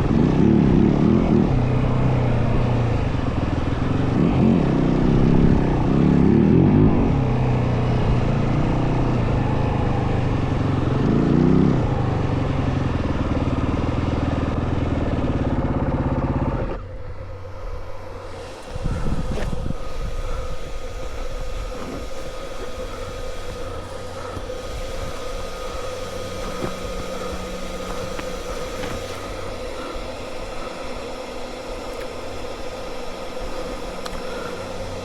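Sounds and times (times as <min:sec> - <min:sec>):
dirt bike engine surging: 0:00.0 - 0:35.0.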